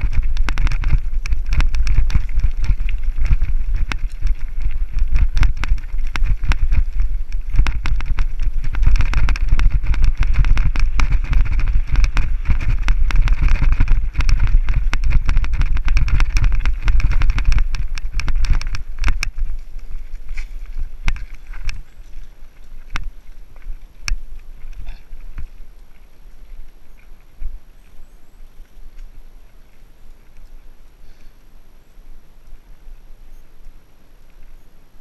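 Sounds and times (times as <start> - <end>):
bike rattling on rough trail: 0.0 - 31.4
wind rumbling on microphone: 0.0 - 35.0.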